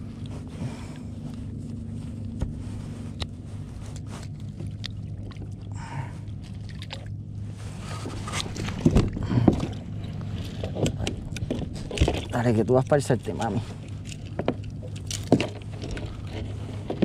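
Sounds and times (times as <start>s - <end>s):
steady low hum: 0.0s - 17.0s
water sloshing against kayak: 0.0s - 17.0s.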